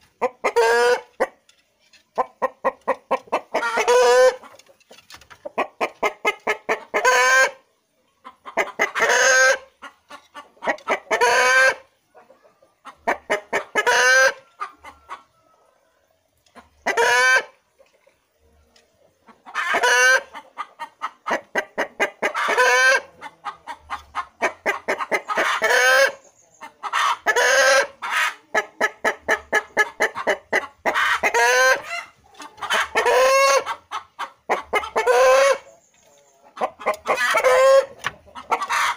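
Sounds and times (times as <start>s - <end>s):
rooster clucking: 0.0s - 15.7s, 16.4s - 18.6s, 19.2s - 38.9s.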